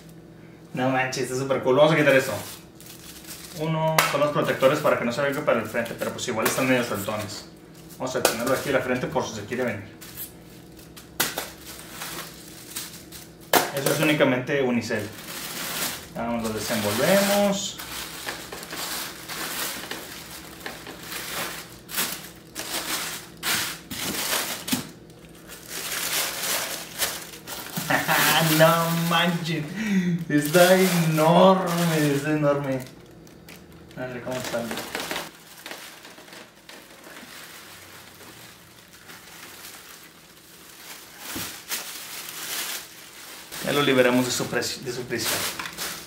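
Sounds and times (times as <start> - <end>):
plastic wrapping crinkling: 1.8 - 14.2, 14.8 - 46.0
tissue paper and foam rustling: 1.9 - 14.2, 14.8 - 46.0.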